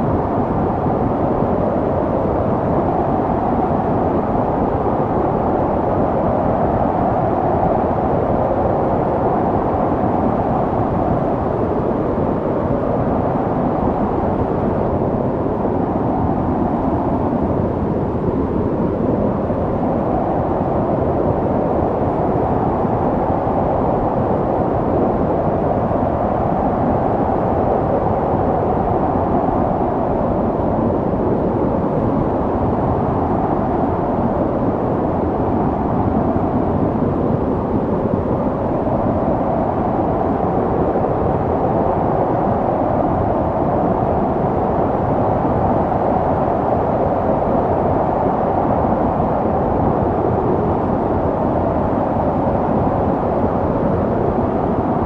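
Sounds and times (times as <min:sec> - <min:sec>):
snowstorm wind blowing: 0:00.0 - 0:55.0.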